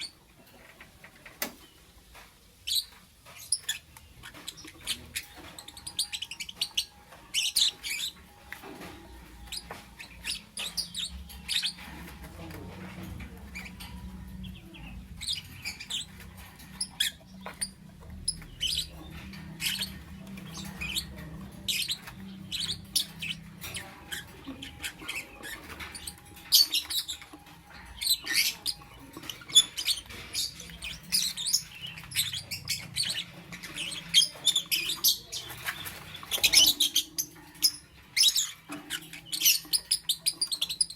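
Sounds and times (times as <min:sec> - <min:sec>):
lovebird chirping: 0:01.4 - 0:12.5, 0:13.2 - 0:40.9.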